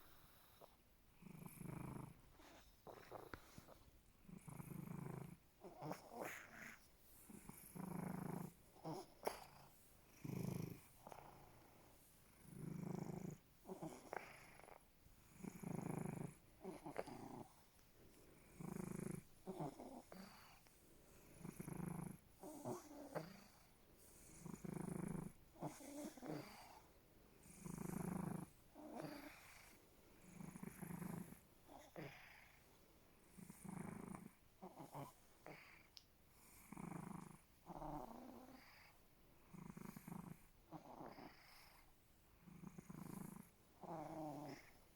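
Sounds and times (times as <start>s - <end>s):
cat purring and snoring: 0.0s - 17.8s, 18.4s - 44.9s.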